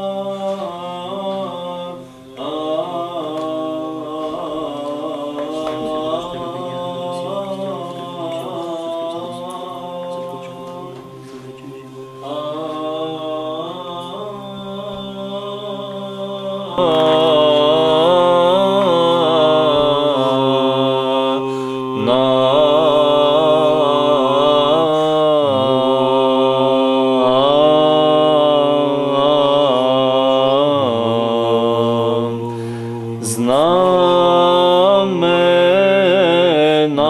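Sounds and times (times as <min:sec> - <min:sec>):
men chanting a melody: 0:00.0 - 0:37.0.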